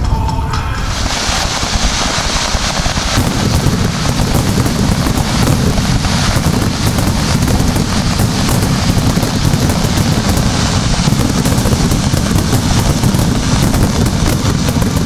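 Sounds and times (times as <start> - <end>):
fireworks crackling: 0.0 - 15.0
fireworks bursts and booms: 0.7 - 15.0.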